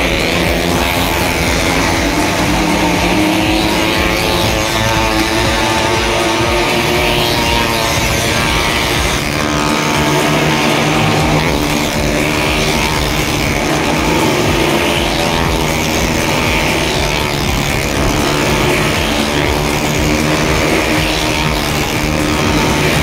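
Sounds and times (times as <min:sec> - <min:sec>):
motorcycle engine running hard: 0:00.0 - 0:23.0.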